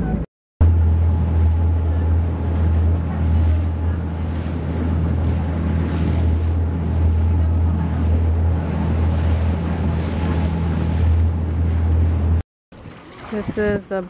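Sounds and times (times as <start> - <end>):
boat engine droning: 0.0 - 14.0
water noise: 0.0 - 14.0.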